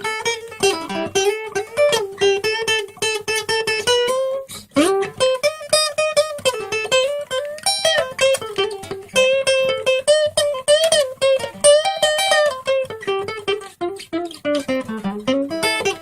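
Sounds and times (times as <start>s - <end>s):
blues guitar lead: 0.0s - 16.0s.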